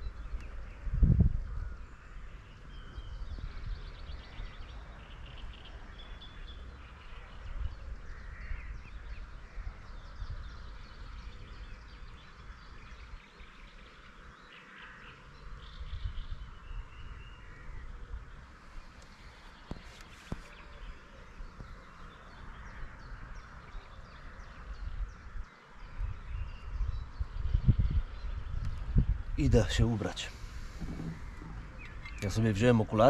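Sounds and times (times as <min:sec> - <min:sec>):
wind gusting on microphone: 0:00.0 - 0:13.7, 0:15.4 - 0:33.0
small birds chirping: 0:00.0 - 0:33.0.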